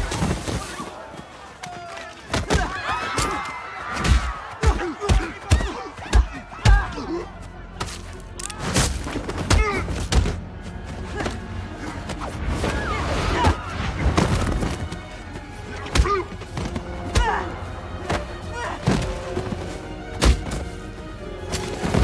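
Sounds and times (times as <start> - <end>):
dramatic film score: 0.0 - 22.0.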